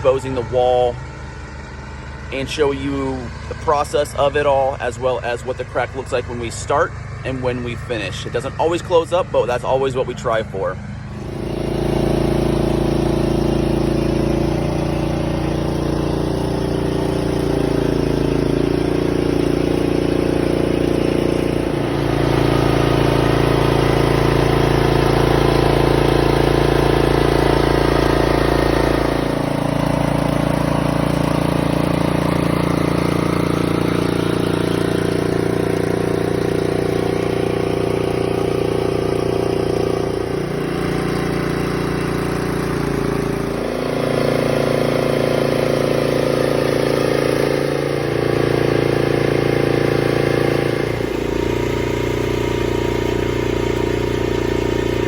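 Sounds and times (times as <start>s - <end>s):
hydraulic pump engine running: 0.0s - 55.0s.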